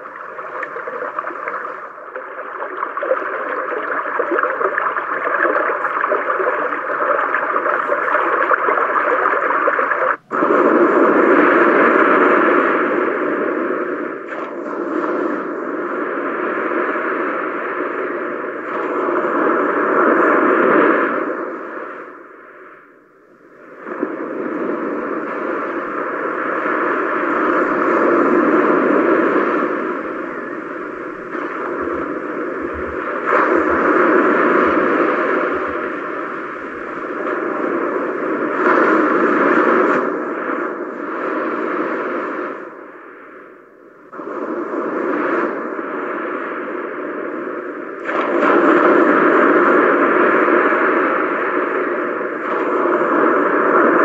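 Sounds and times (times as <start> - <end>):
steady rushing noise from speaker: 0.0 - 54.0.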